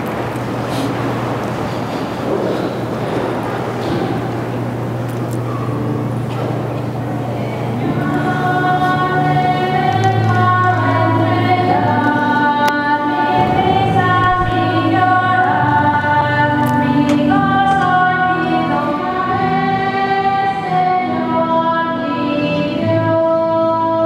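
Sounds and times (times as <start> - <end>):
choir singing a hymn: 0.9 - 24.0.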